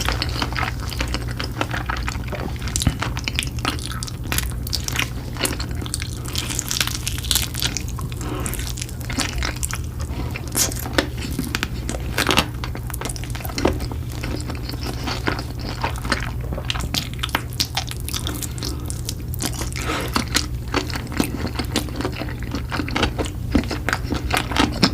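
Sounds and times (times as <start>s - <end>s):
crunchy bites: 0.0s - 22.2s
chewing and wet mouth noises: 0.0s - 24.9s.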